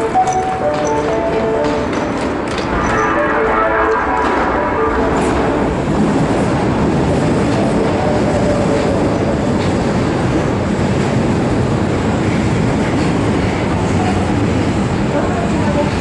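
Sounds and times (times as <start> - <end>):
subway train wheels on rails: 0.0 - 16.0.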